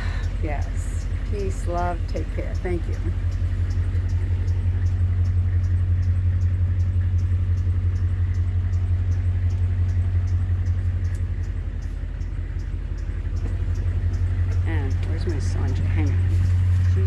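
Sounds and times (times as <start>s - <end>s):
bus engine idling: 0.0s - 17.0s
faint light ticking: 0.0s - 17.0s.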